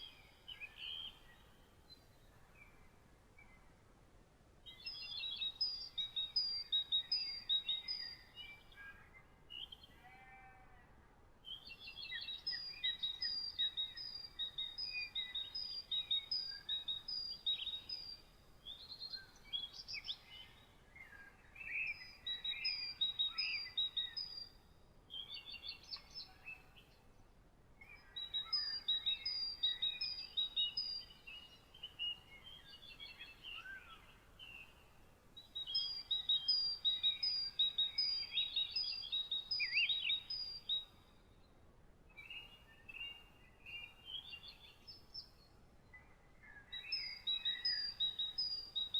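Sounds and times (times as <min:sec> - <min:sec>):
faint background hiss: 0:00.0 - 0:48.9
songbirds chirping and trilling: 0:00.0 - 0:48.9.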